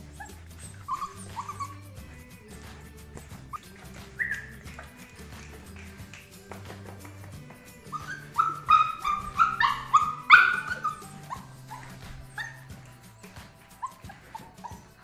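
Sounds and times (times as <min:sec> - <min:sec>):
puppies yipping: 0:00.0 - 0:02.4, 0:03.2 - 0:15.0
soft background music: 0:00.0 - 0:15.0.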